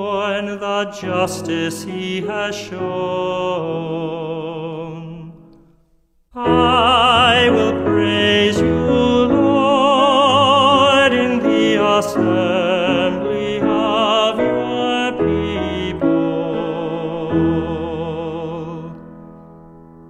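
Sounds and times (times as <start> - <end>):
person singing with vibrato: 0.0 - 19.2.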